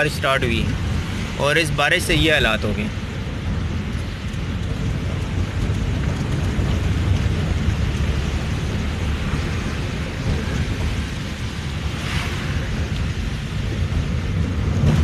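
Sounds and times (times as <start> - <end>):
rain on a car: 0.0 - 15.0
tyres on a wet road: 0.0 - 15.0.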